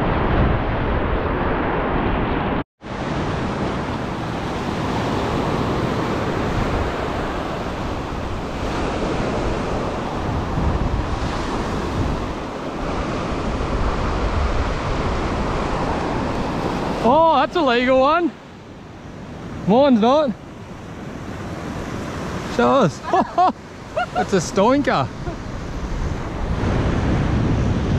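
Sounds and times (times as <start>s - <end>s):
wind buffeting microphone: 0.0s - 19.7s, 20.5s - 27.9s
surf breaking on beach: 0.0s - 27.9s.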